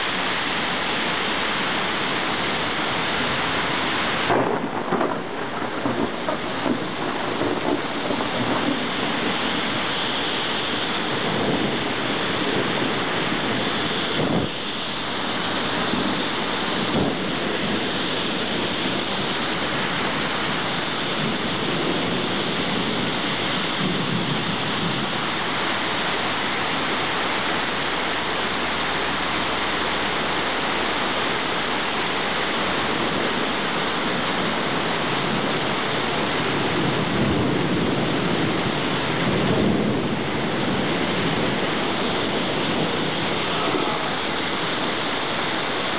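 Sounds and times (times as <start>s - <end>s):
rain pouring: 0.0s - 45.9s.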